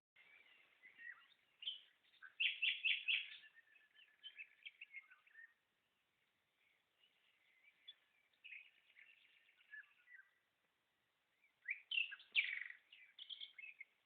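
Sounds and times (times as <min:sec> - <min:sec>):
songbirds chirping: 0:00.2 - 0:14.0.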